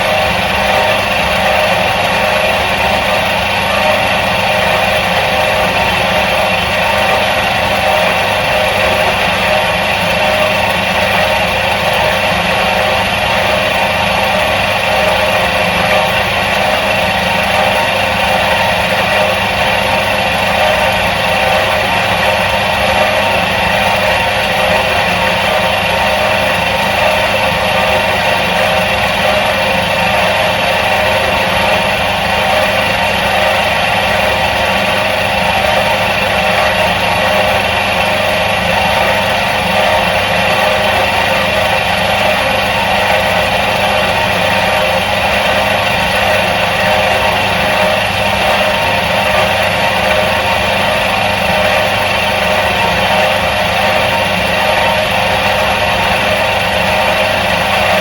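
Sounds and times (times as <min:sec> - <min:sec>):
washing machine motor humming: 0:00.0 - 0:58.0.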